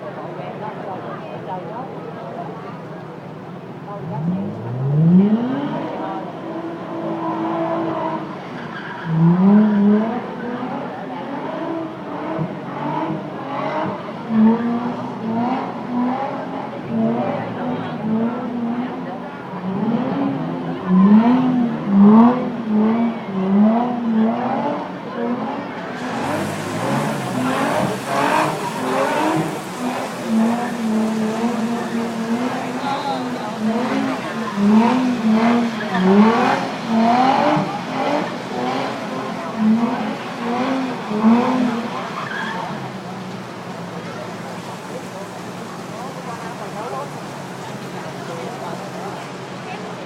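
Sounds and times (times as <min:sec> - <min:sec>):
car engine revving hard: 0:02.4 - 0:50.0.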